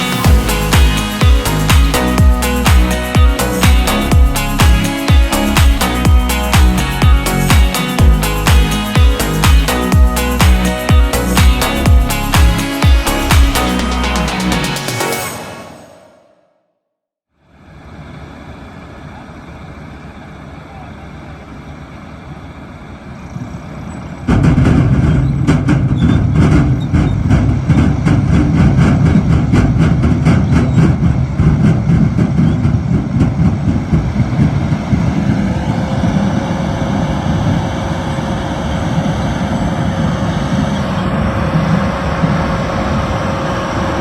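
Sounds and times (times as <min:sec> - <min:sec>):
diesel farm machinery: 0:00.0 - 0:15.6, 0:17.4 - 0:44.0.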